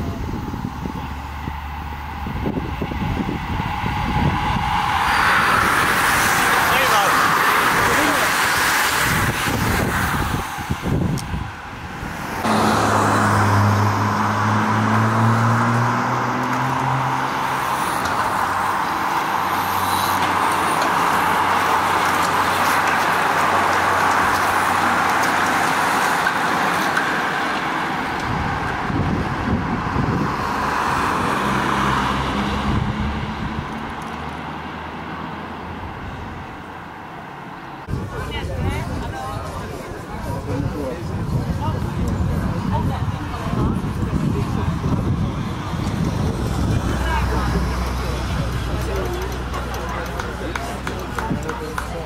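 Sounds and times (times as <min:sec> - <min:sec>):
road noise: 0:00.0 - 0:52.0
vehicle engine humming: 0:00.0 - 0:52.0.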